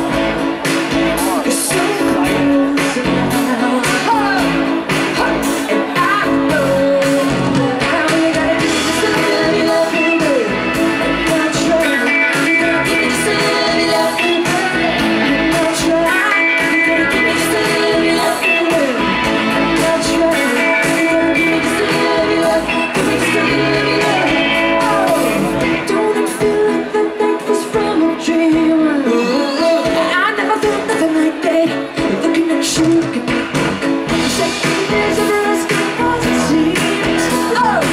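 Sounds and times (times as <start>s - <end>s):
live pop-rock band: 0.0s - 37.9s
woman singing: 1.3s - 37.9s.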